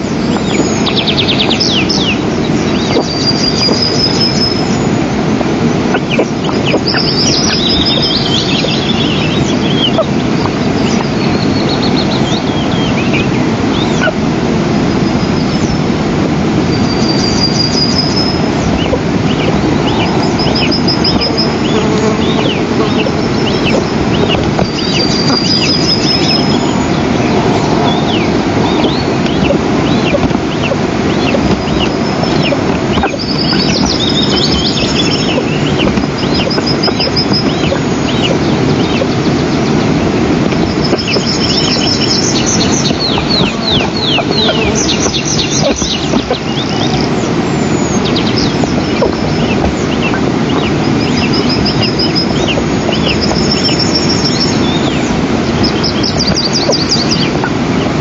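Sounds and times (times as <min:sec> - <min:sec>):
small birds trilling: 0:00.0 - 0:16.0, 0:16.6 - 0:58.0
eagle chicks begging calls: 0:00.0 - 0:58.0
steady rushing noise: 0:00.0 - 0:58.0.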